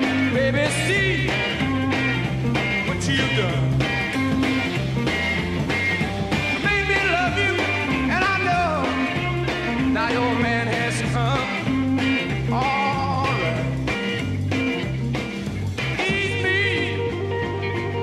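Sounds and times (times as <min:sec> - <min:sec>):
bending lead guitar line: 0:00.0 - 0:18.0
blues rock band playing live: 0:00.0 - 0:18.0.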